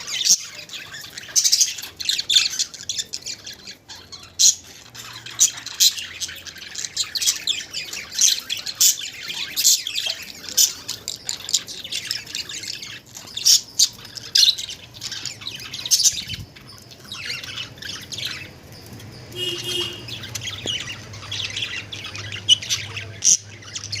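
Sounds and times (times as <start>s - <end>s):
budgerigars chirping and warbling: 0.0s - 24.0s.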